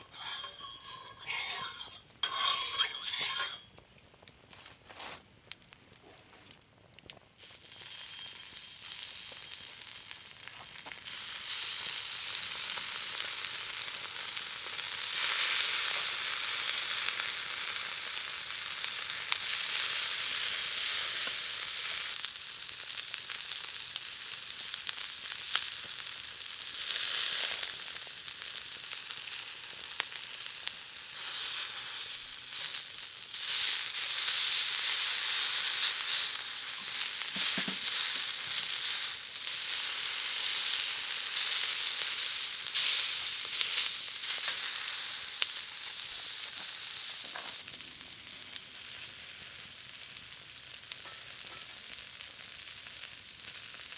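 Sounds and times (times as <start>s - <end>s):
food sizzling on a hot pan: 0.0s - 53.9s.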